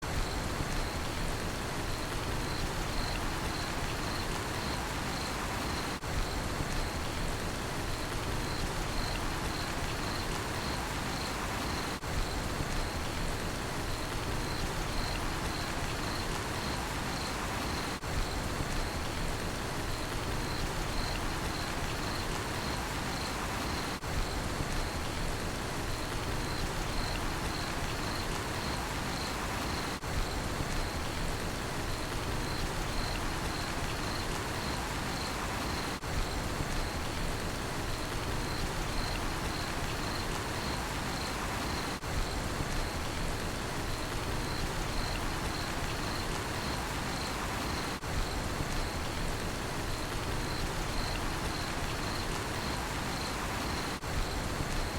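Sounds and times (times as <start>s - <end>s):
rain hissing on surfaces: 0.0s - 54.9s
cricket chirping: 0.2s - 1.2s, 1.9s - 7.2s, 7.8s - 13.2s, 13.8s - 31.2s, 31.8s - 54.9s.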